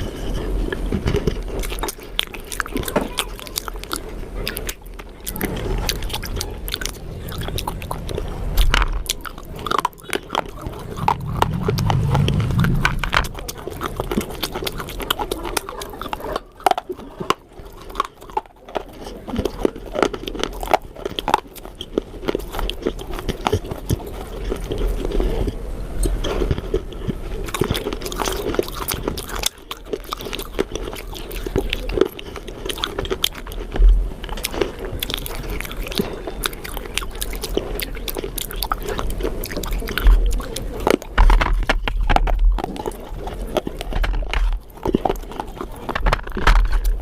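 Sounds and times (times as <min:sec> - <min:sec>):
crunchy food chewing: 0:00.0 - 0:47.0.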